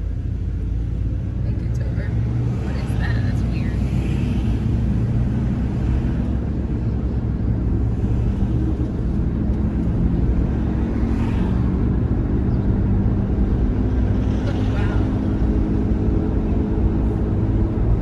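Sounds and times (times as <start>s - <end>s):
car cabin engine and road drone: 0.0s - 18.0s.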